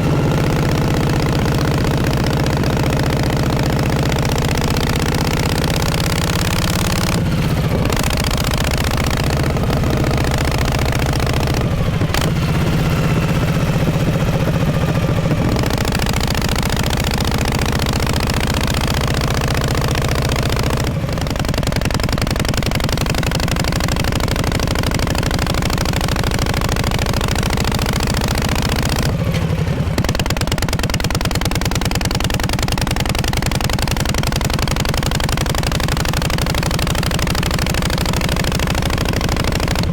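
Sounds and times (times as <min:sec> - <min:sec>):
motorcycle exhaust running: 0:00.0 - 0:39.9.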